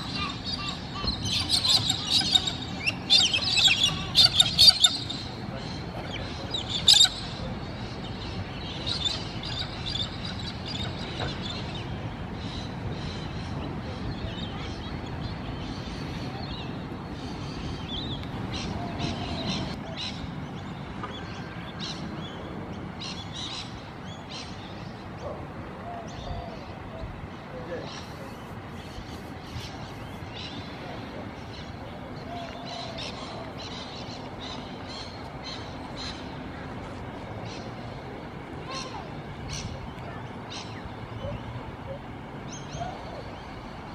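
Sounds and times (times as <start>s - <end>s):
birds chirping: 0.0s - 43.9s
steady low rumble: 0.0s - 43.9s.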